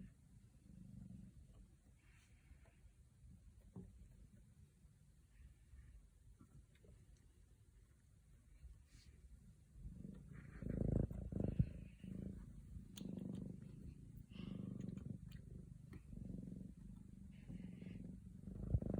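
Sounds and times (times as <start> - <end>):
kitten purring: 0.0 - 18.9.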